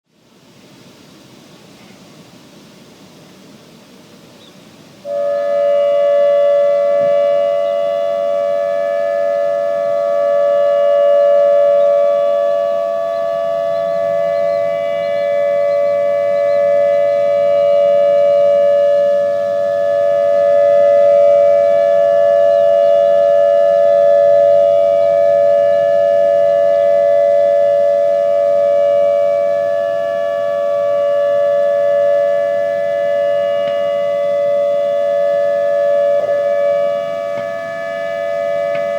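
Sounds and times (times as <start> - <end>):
warning siren steady tones: 0.2 - 38.9.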